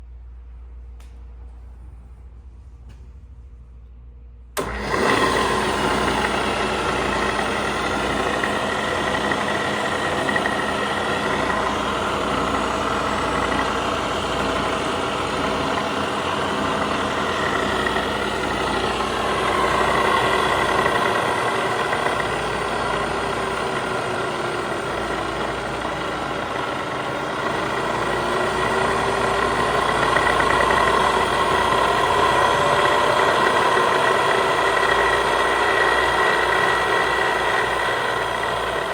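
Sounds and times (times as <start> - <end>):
milling machine motor whining: 4.6 - 38.9.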